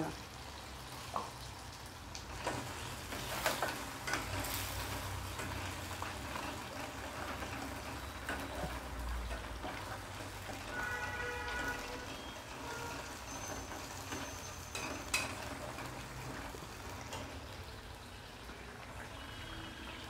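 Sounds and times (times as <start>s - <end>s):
paste sizzling in oil: 0.0s - 20.0s.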